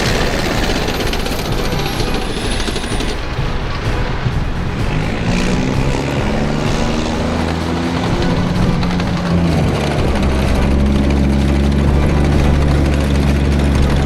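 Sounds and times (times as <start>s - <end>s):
diesel engine note: 0.0s - 14.0s
high whine: 0.0s - 14.0s
track clatter: 0.0s - 14.0s.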